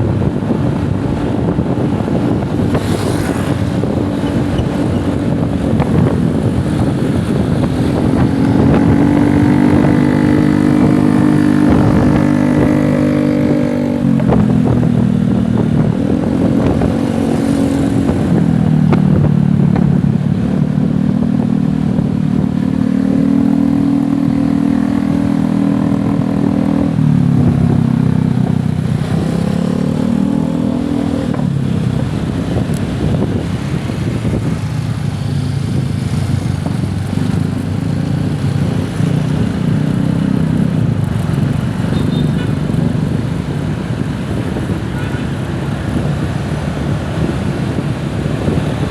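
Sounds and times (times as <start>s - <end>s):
motorcycle engine revving: 0.3s - 48.9s.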